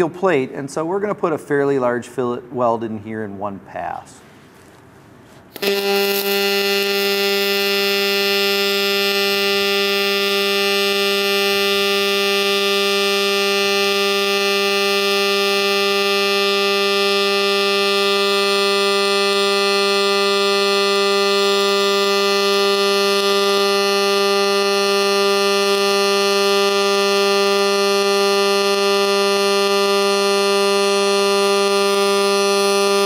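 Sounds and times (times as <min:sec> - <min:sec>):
welding arc buzzing: 0:05.5 - 0:33.0.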